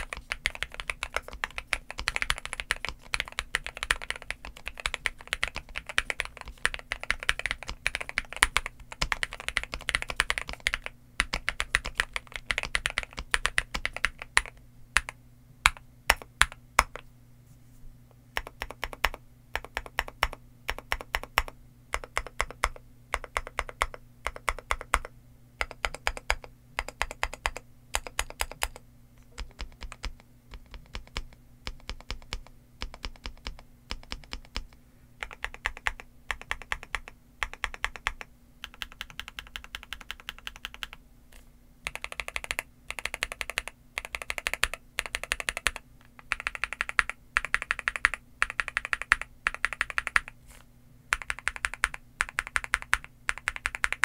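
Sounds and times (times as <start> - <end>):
mechanical keyboard typing: 0.0 - 17.0, 18.4 - 41.0, 41.8 - 50.4, 51.1 - 54.0.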